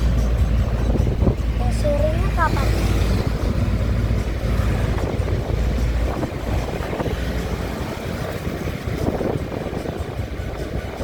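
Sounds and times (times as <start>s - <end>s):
vehicle engine rumble: 0.0s - 11.0s
wind noise on microphone: 0.0s - 11.0s.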